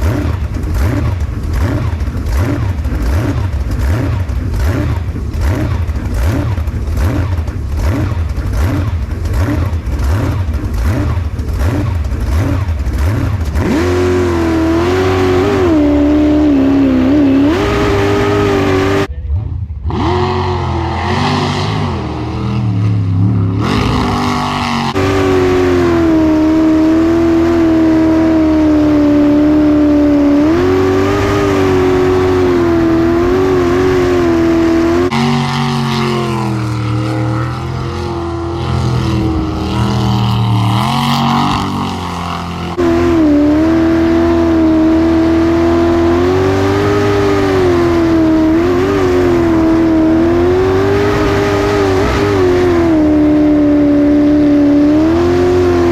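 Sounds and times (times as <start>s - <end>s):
jet boat engine at high revs: 0.0s - 19.2s, 23.6s - 55.9s.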